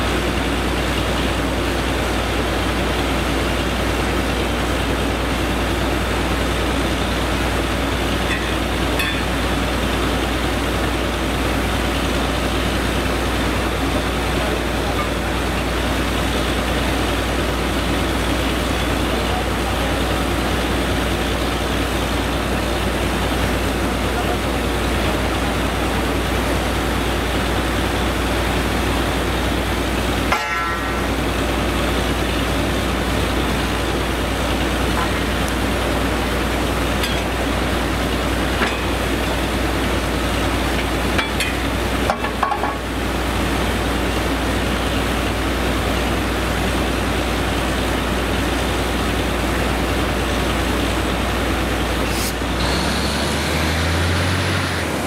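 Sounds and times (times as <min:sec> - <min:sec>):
drilling rig air compressor running: 0:00.0 - 0:55.0.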